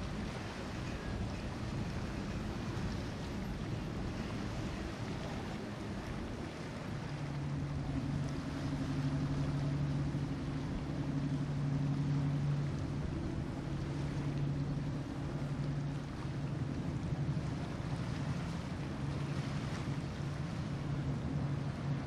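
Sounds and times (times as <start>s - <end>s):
boat engine droning: 0.0s - 22.0s
water noise: 0.0s - 22.0s
wind: 0.0s - 22.0s.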